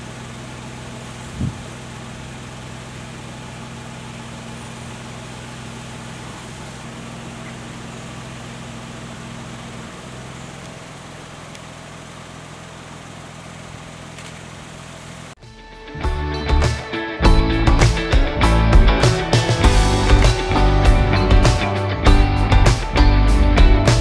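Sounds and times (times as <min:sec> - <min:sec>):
engine idling hum: 0:00.0 - 0:15.4, 0:16.1 - 0:24.0.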